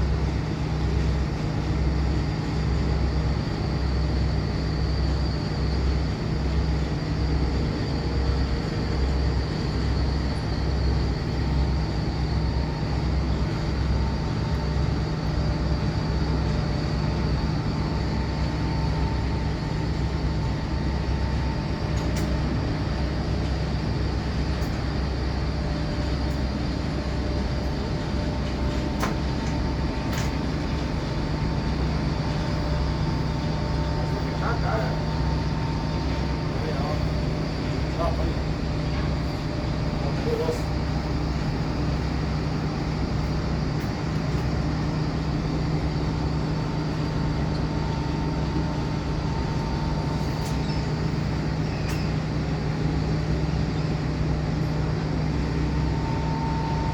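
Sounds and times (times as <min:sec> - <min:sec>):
heavy machinery humming: 0:00.0 - 0:56.9.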